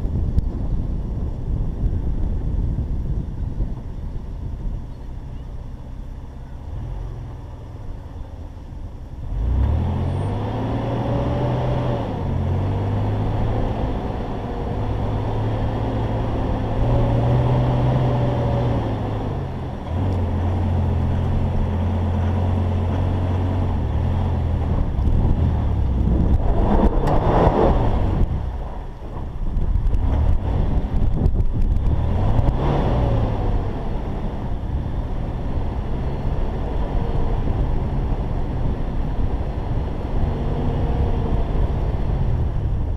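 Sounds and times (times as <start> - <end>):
truck engine climbing: 0.0 - 42.9.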